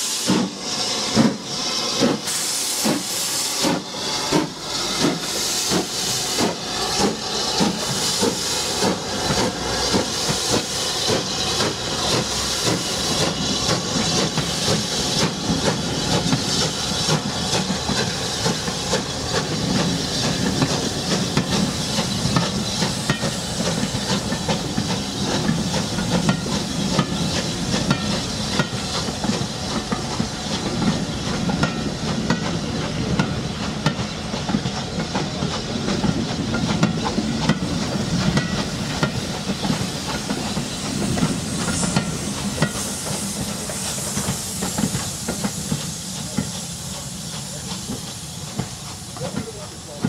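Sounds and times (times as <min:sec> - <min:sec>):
steam locomotive working: 0:00.0 - 0:50.0
train wheels clattering over rails: 0:00.0 - 0:50.0.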